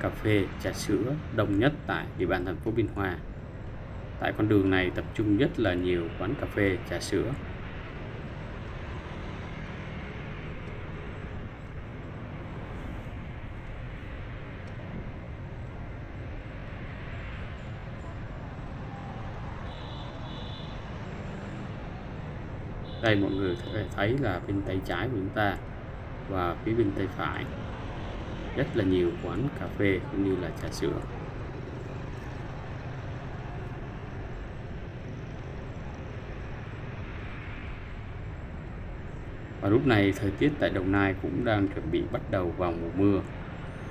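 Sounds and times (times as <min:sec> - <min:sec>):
passing wind: 0:00.0 - 0:43.9
road traffic: 0:00.0 - 0:43.9
vehicle engines running: 0:00.0 - 0:43.9.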